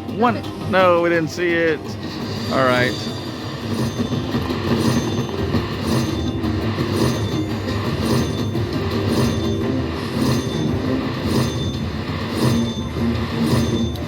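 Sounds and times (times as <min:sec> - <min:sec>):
slot machine electronic win sounds: 0:00.0 - 0:14.0.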